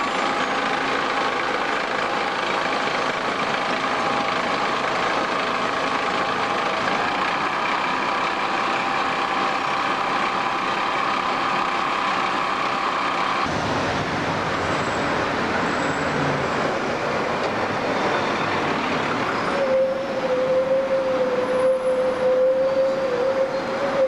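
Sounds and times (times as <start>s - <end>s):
bus whine: 0.0s - 24.0s
vehicles driving past: 0.0s - 24.0s.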